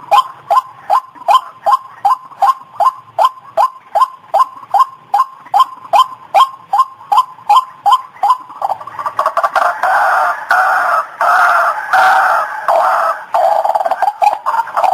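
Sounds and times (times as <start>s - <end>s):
waterhen calling: 0.0s - 14.9s.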